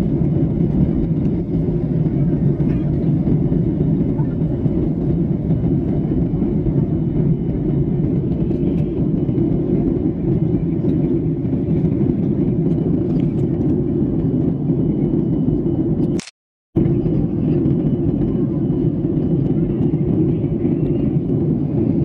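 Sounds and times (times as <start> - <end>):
airliner cabin engine drone: 0.0 - 22.0.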